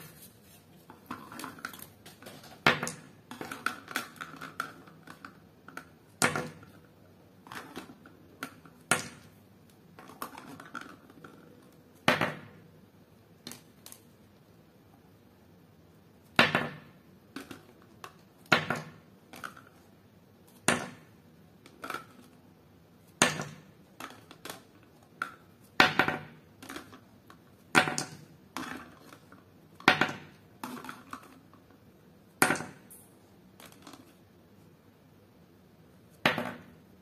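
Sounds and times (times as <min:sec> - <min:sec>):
plastic balls clicking and tapping: 0:00.8 - 0:12.7, 0:13.3 - 0:14.5, 0:16.3 - 0:34.4.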